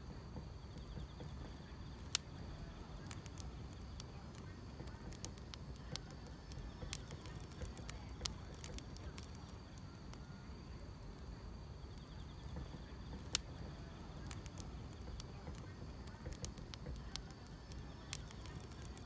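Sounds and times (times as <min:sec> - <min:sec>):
insects trilling: 0:00.0 - 0:19.0
wood fire crackling: 0:00.0 - 0:19.0.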